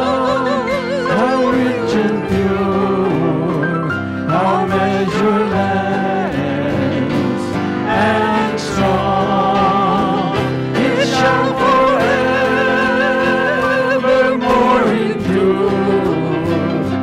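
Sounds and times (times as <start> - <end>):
acoustic guitar: 0.0 - 17.0
piano: 0.0 - 17.0
voices singing in harmony: 0.0 - 17.0.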